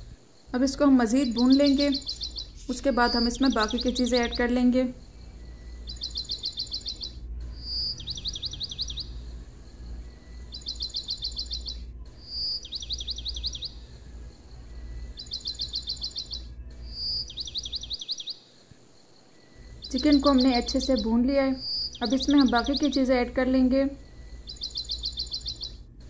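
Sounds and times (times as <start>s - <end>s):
low steady hum: 0.0s - 26.0s
songbird chirps and trill: 0.0s - 26.0s.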